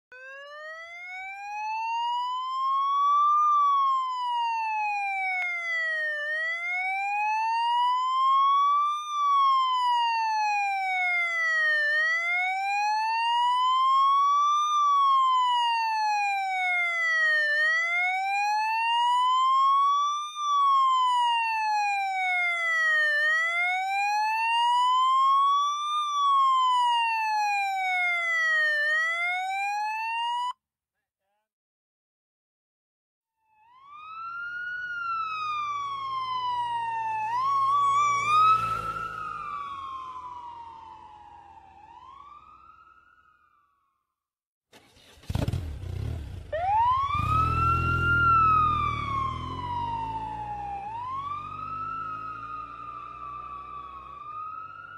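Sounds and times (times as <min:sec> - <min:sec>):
police siren wailing: 0:00.1 - 0:30.6, 0:33.5 - 0:43.8, 0:46.4 - 0:54.9.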